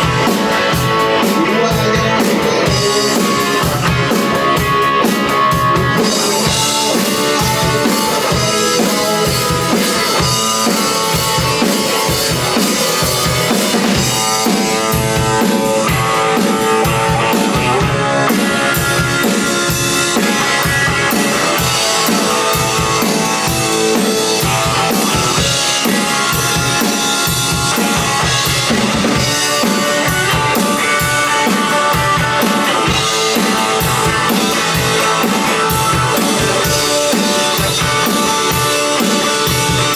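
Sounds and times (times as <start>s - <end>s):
drum kit rock beat: 0.0s - 39.9s
electric guitar: 0.0s - 39.9s.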